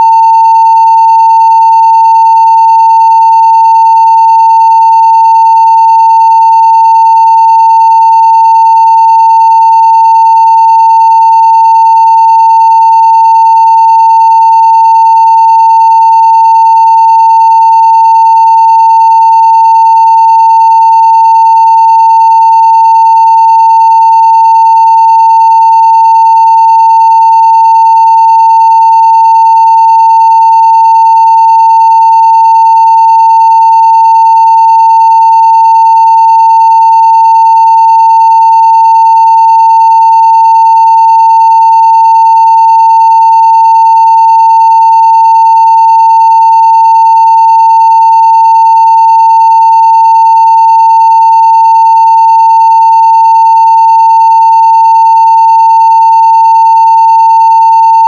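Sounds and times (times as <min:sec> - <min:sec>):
sine-wave test tone: 0:00.0 - 0:58.0.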